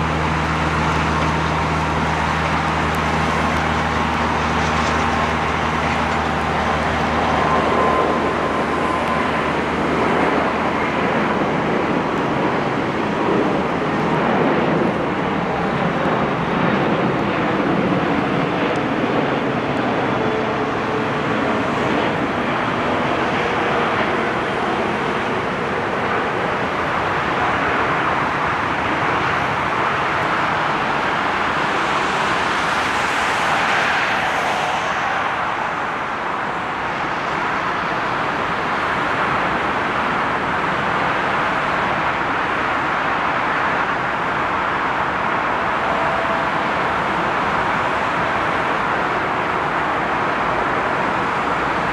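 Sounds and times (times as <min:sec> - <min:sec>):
jet engines rushing: 0:00.0 - 0:51.9.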